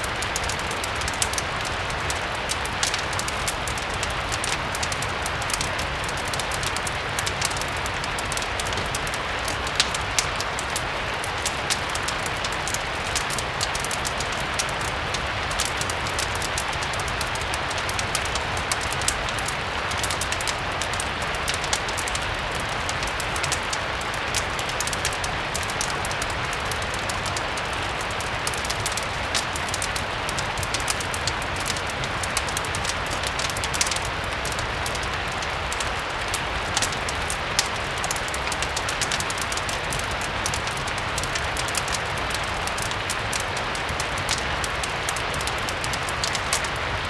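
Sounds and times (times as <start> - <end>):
steady rain: 0.0 - 47.0
wood fire crackling: 0.0 - 47.0.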